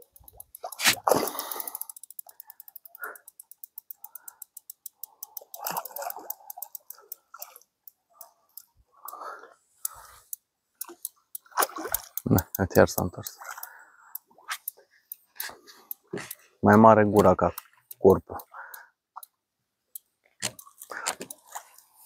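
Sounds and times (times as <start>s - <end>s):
fishing reel ratchet clicking: 0.0s - 22.0s.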